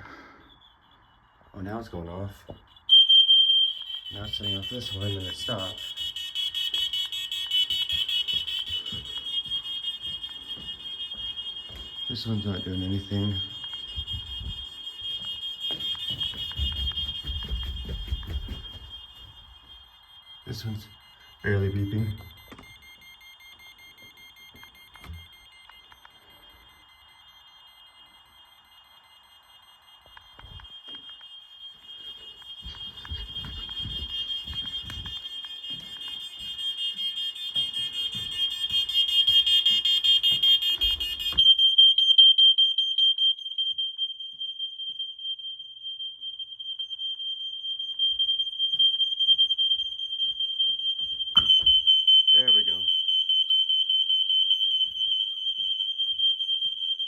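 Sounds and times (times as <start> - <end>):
smoke alarms sounding: 0.0 - 57.0
knocking on alarms: 0.1 - 57.0.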